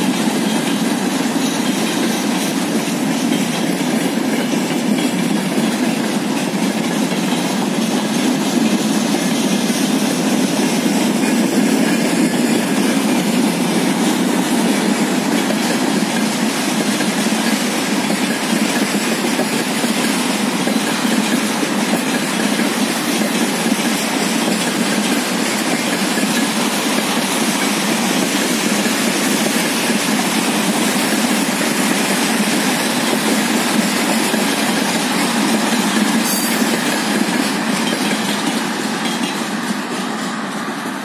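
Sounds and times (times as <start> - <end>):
train wheels clattering on rails: 0.0 - 41.0.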